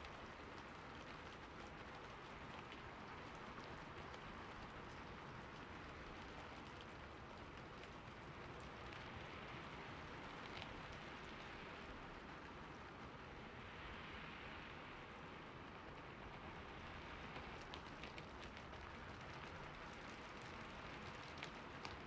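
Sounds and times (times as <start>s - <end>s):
rain falling on a roof: 0.0s - 22.0s.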